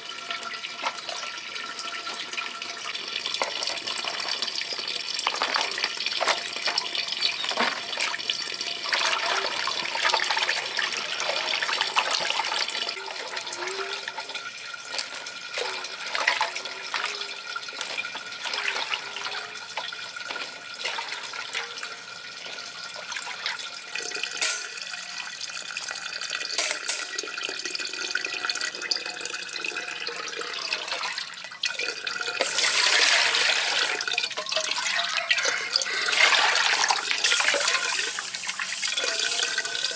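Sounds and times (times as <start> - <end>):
water running and splashing: 0.5 - 39.9.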